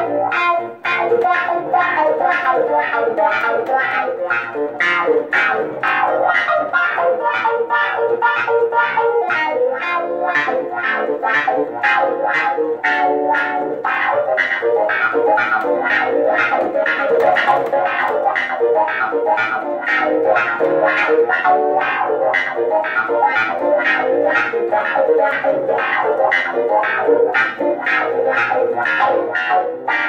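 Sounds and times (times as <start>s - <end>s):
funky clavinet keyboard: 0.0s - 30.0s.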